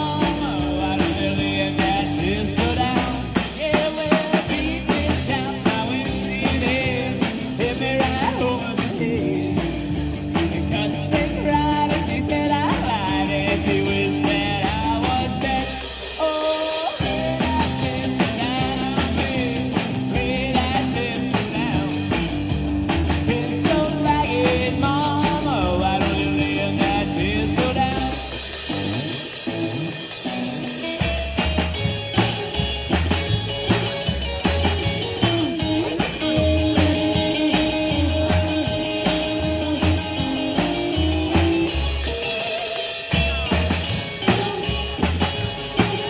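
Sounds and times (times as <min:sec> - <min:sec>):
upright double bass: 0:00.0 - 0:42.4, 0:43.1 - 0:46.0
drum kit playing: 0:00.0 - 0:46.0
electric guitar lead line: 0:00.0 - 0:46.0.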